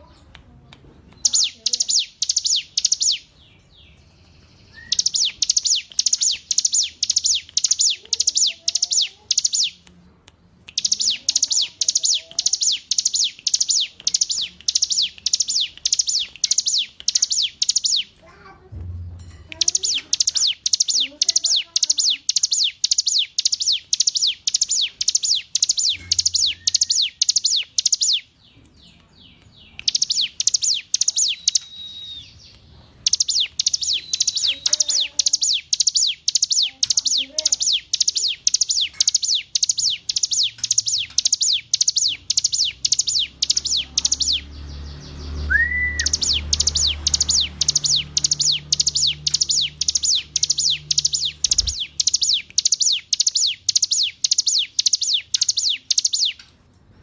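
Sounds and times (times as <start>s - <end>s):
bird singing high chirps: 1.1s - 9.8s, 10.7s - 18.5s, 19.5s - 56.4s.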